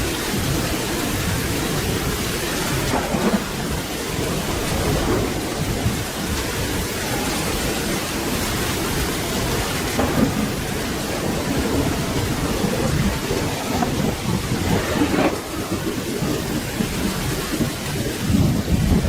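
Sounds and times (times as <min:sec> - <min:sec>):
heavy rain: 0:00.0 - 0:19.0
rolling thunder rumble: 0:00.0 - 0:19.0.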